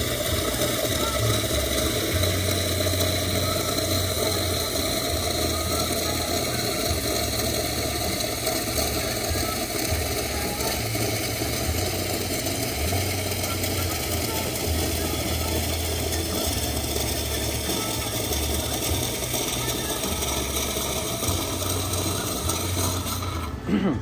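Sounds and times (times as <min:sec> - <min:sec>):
espresso machine hiss and hum: 0:00.0 - 0:24.0
faint high whine: 0:00.0 - 0:24.0.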